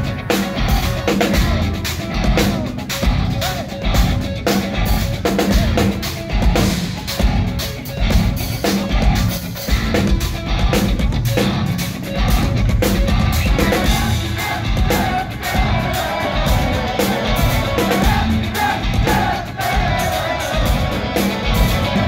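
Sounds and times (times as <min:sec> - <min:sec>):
drum kit: 0:00.0 - 0:22.0
electric guitars playing riffs: 0:00.0 - 0:22.0.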